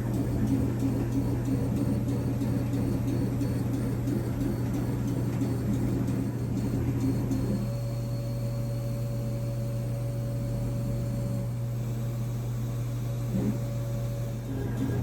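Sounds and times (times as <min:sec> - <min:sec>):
laser cutter fans humming: 0:00.0 - 0:15.0.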